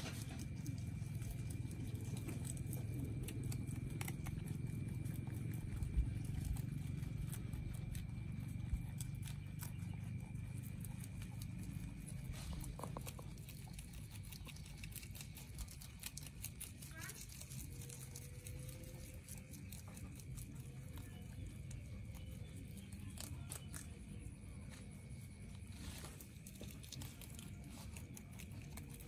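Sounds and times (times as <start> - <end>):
rabbits chewing crunchy greens: 0.0 - 29.0.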